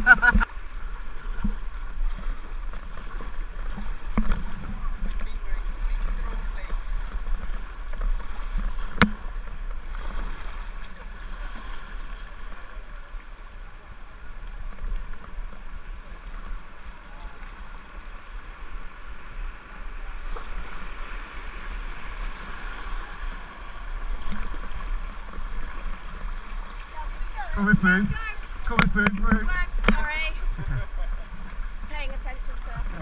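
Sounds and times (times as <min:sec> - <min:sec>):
low rumble on microphone: 0:00.0 - 0:33.0
river water rushing and splashing: 0:00.0 - 0:33.0.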